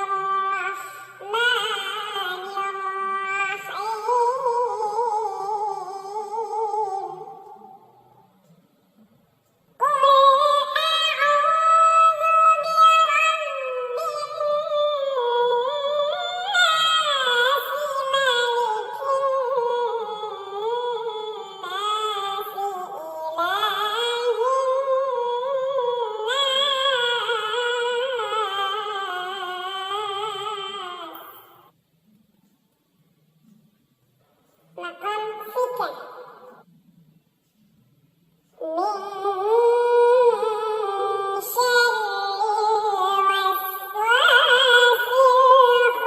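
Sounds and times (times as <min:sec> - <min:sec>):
high voice chanting recitation: 0:00.0 - 0:32.7, 0:33.3 - 0:46.0.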